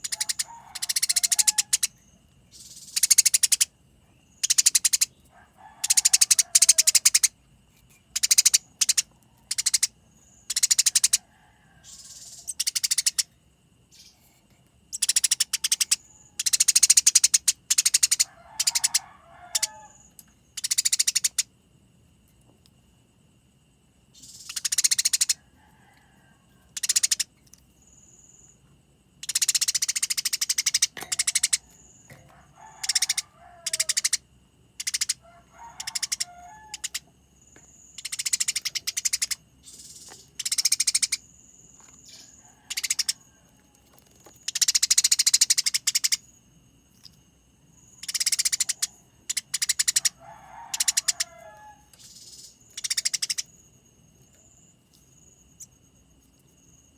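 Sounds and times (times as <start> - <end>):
sparrows harsh rattling chatter: 0.0 - 21.5, 24.1 - 25.4, 26.8 - 28.5, 29.2 - 43.2, 44.1 - 46.2, 47.9 - 53.7.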